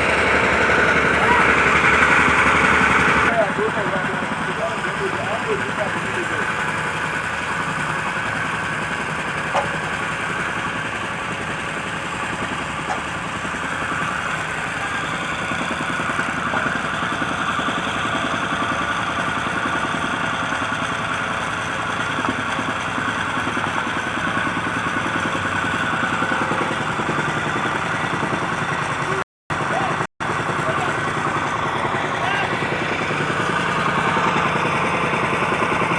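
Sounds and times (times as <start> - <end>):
motor engine running: 0.0 - 35.9.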